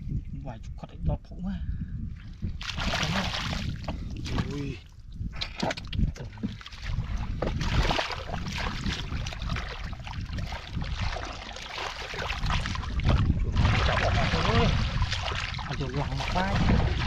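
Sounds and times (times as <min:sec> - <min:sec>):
muddy water splashing: 0:02.3 - 0:04.9, 0:05.5 - 0:17.0.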